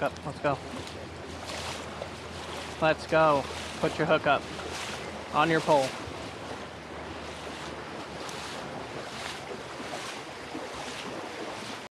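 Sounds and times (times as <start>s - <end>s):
creek water rushing: 0.0s - 11.9s
faint water swishes: 0.0s - 11.9s.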